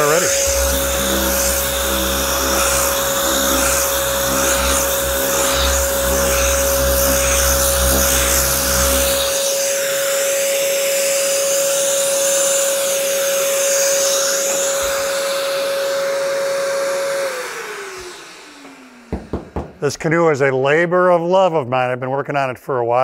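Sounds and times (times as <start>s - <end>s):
orbital sander whining: 0.0s - 20.0s
dust extraction vacuum hissing: 0.0s - 20.1s.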